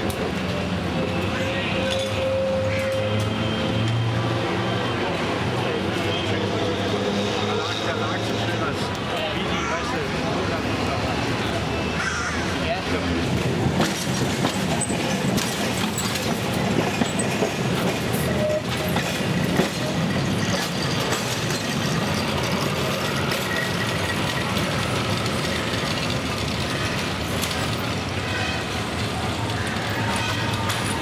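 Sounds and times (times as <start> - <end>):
tram wheels rumbling on rails: 0.0 - 31.0.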